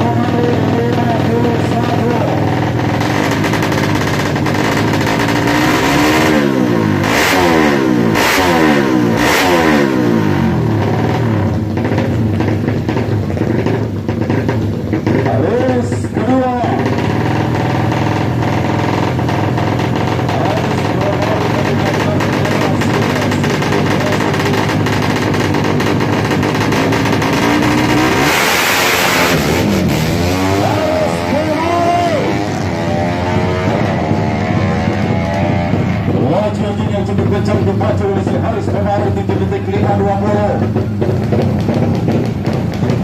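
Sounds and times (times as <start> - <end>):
motorcycle racing at full throttle: 0.0 - 43.0.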